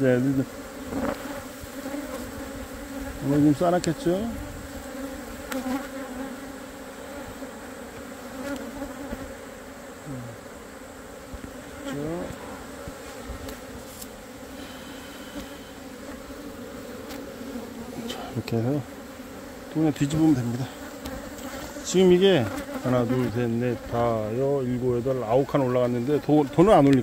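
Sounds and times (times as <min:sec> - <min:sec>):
single bee flying past: 0:00.0 - 0:24.0
bees droning: 0:00.0 - 0:27.0.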